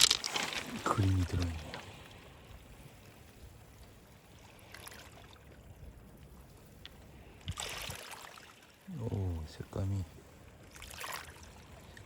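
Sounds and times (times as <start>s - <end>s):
faint wash of water: 0.0s - 12.0s.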